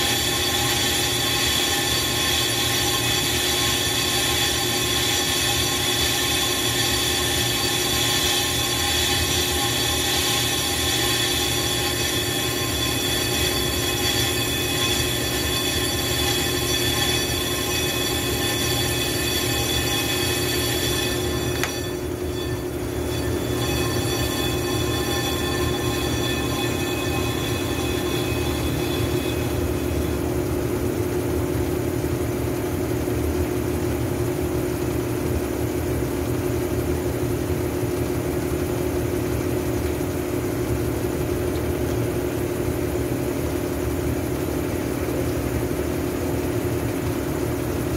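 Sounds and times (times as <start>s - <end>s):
brake lathe ringing whine: 0.0s - 47.9s.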